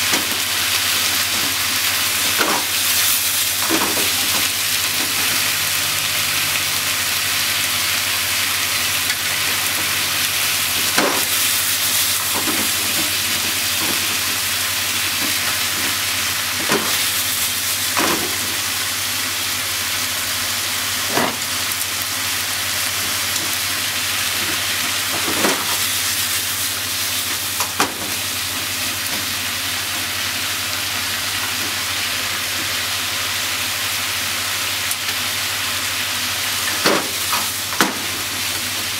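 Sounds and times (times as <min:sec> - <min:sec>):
vegetables sizzling in a frying pan: 0:00.0 - 0:38.9.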